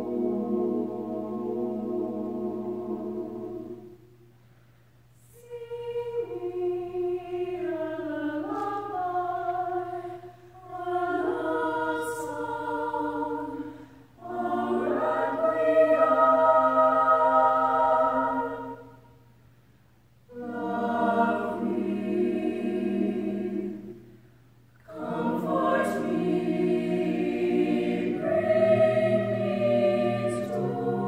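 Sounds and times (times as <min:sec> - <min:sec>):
mixed choir singing a cappella: 0:00.0 - 0:04.1, 0:05.2 - 0:19.2, 0:20.3 - 0:24.2, 0:24.8 - 0:31.0.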